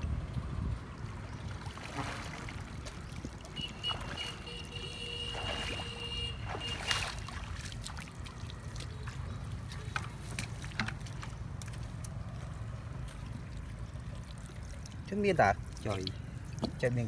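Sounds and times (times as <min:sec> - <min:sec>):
water splashing and sloshing: 0:00.0 - 0:17.0
water trickling: 0:00.0 - 0:17.0
footsteps in water: 0:01.4 - 0:17.0.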